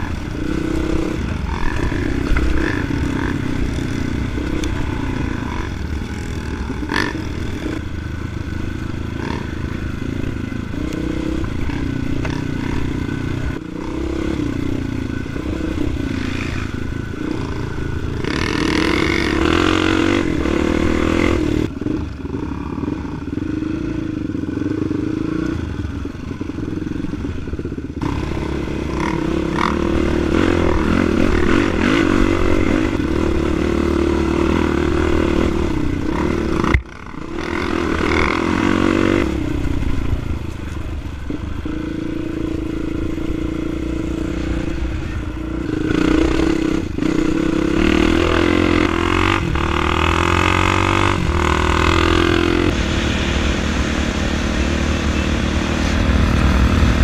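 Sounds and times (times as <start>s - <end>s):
dirt bike engine revving: 0.0s - 40.1s, 41.1s - 57.0s
clatter over rough dirt track: 0.0s - 57.0s.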